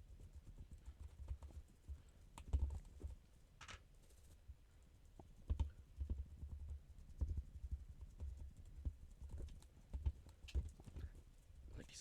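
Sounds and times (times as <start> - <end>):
paint brush scratching and tapping: 0.0 - 11.7.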